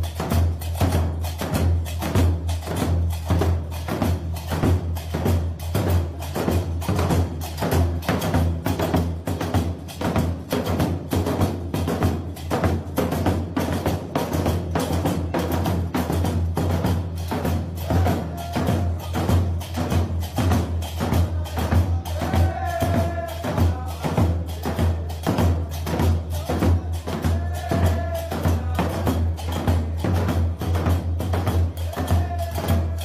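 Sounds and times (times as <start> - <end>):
background music with percussion beat: 0.0 - 33.0.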